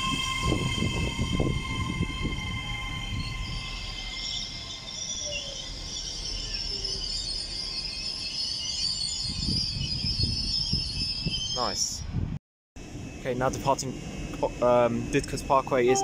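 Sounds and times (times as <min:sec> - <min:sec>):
low train rumble: 0:00.0 - 0:16.0.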